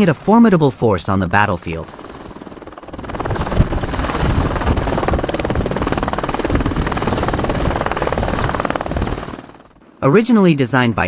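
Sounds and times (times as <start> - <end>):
helicopter rotor chopping: 0.9 - 10.3
turbine noise: 1.1 - 10.2.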